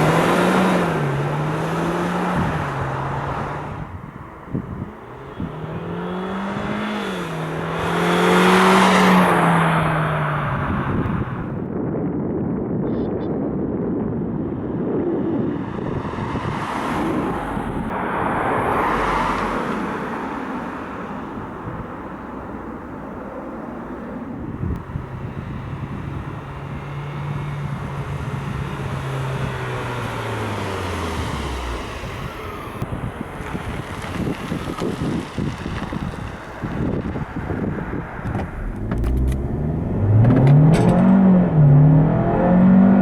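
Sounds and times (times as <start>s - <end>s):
car engine: 0.0s - 11.8s, 13.8s - 43.0s
gusty wind noise: 0.0s - 43.0s
road noise: 0.0s - 43.0s.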